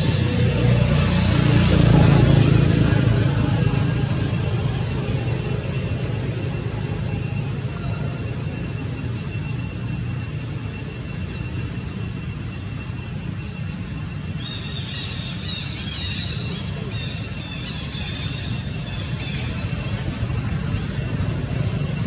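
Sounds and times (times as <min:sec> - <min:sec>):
high-pitched whine: 0:00.0 - 0:22.0.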